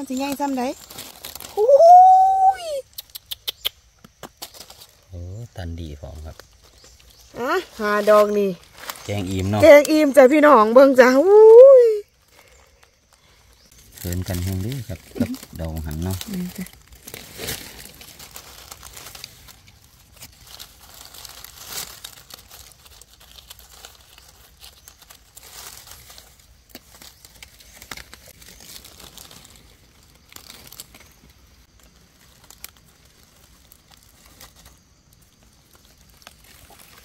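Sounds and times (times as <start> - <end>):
dry leaves crackling and rustling: 0.0 - 3.0, 4.2 - 37.0.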